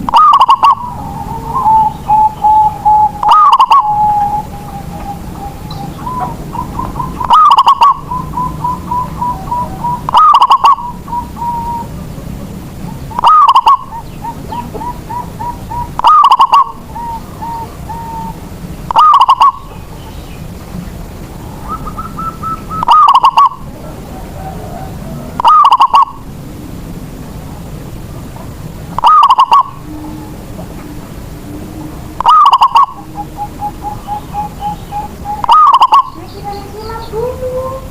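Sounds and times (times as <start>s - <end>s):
dove cooing: 0.0s - 20.1s, 21.3s - 27.6s, 28.2s - 37.9s.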